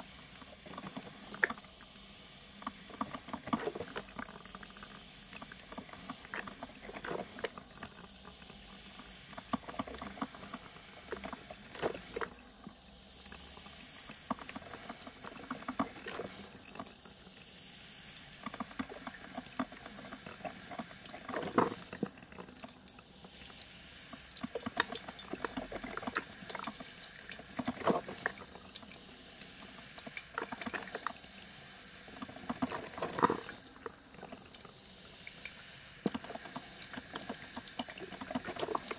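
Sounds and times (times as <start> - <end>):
coffee machine water gurgling: 0.0 - 38.9
faint steady hiss: 0.0 - 38.9.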